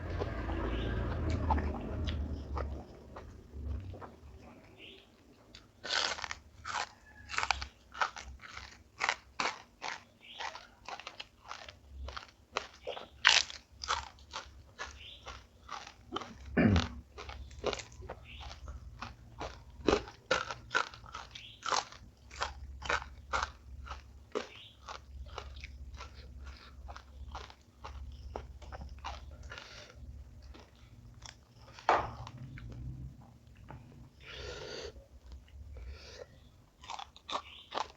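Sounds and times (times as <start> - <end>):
person chewing crunchy food: 0.0 - 37.9.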